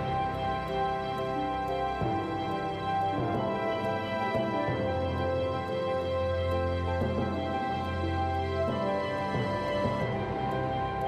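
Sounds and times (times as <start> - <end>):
soft sustained background music: 0.0 - 11.0.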